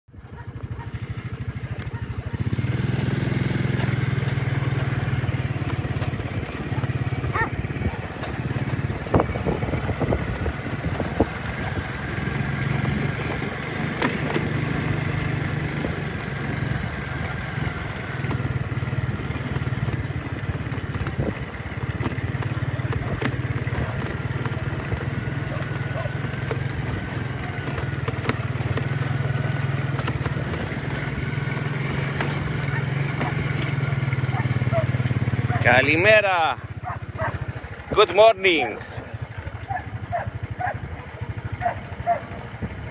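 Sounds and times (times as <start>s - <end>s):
vehicle engine running at low speed: 0.1s - 42.9s.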